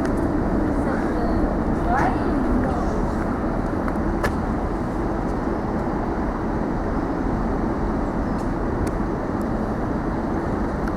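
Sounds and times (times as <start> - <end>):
diesel locomotive engine running: 0.0 - 10.9.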